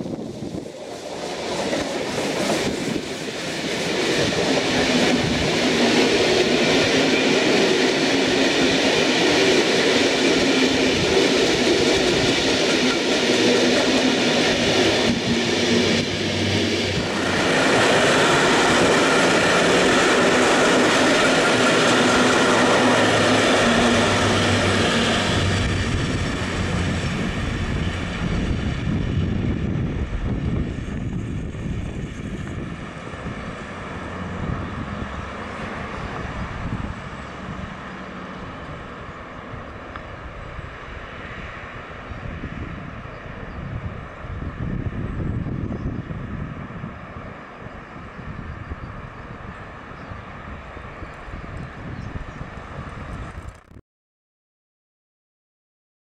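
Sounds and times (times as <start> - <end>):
steam locomotive passing: 0.0 - 53.7
coaches rolling on rails: 0.1 - 53.8.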